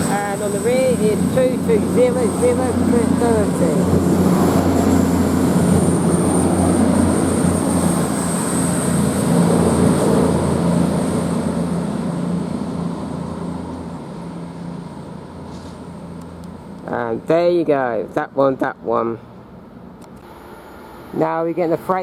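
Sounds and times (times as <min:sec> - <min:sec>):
diesel train engine droning: 0:00.0 - 0:22.0
faint high whine: 0:00.0 - 0:22.0.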